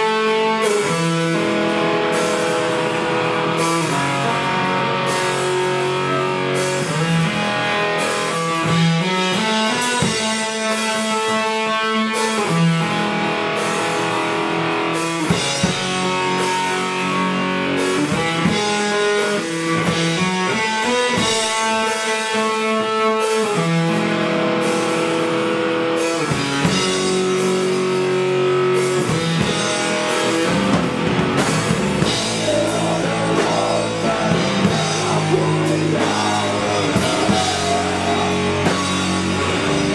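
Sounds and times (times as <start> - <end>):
heavy drum and cymbal hits: 0.0 - 39.9
sustained electric guitar notes: 0.0 - 39.9.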